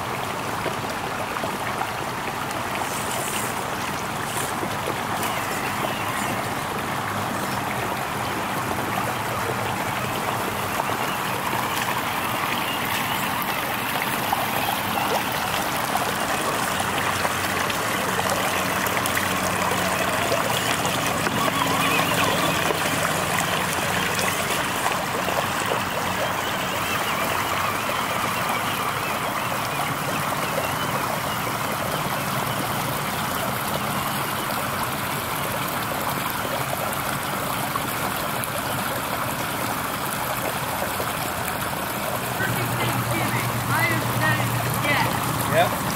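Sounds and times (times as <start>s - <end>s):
creek gurgling: 0.0s - 45.9s
water churned by toy truck: 0.0s - 45.9s.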